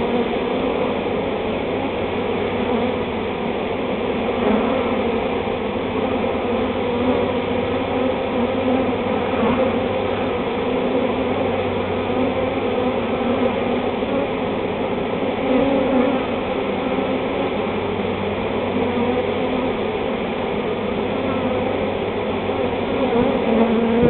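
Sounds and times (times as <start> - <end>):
bee swarm buzzing: 0.0 - 24.0.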